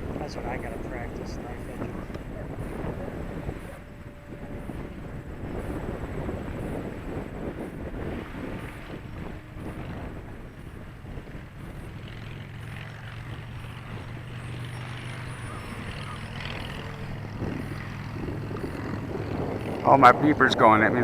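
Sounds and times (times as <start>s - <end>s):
model plane engine drone: 0.0s - 21.0s
wind rumbling on microphone: 0.0s - 21.0s.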